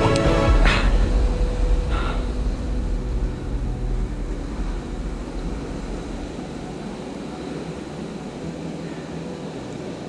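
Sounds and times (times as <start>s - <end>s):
surf breaking on shore: 0.0s - 10.0s
wind buffeting microphone: 0.0s - 10.0s.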